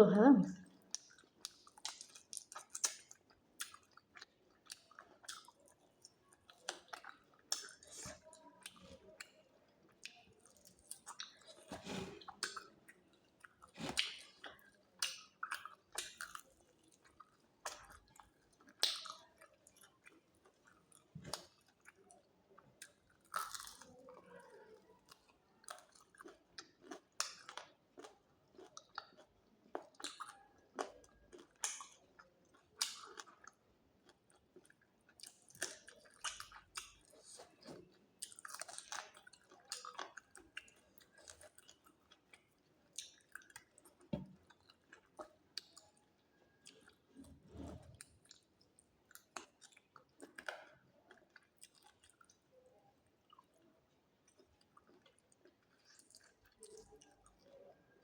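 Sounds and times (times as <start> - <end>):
person chewing crunchy food: 0.8 - 52.5, 54.2 - 57.6.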